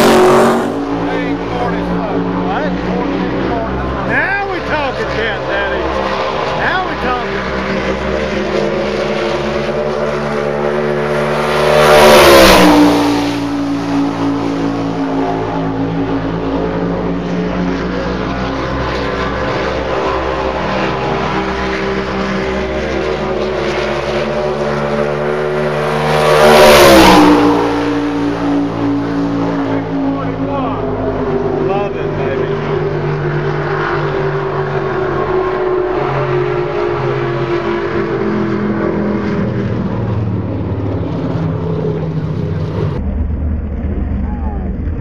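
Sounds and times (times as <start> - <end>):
distant race car engine: 0.0 - 45.0
race car passing by: 0.0 - 45.0.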